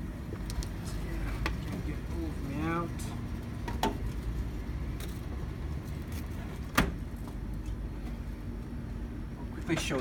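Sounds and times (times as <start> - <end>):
vending machine humming: 0.0 - 10.0.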